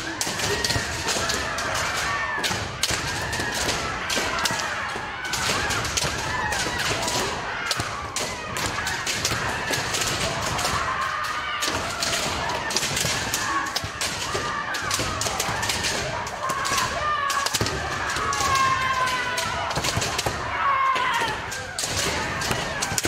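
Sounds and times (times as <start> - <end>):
many voices shouting: 0.0 - 23.0.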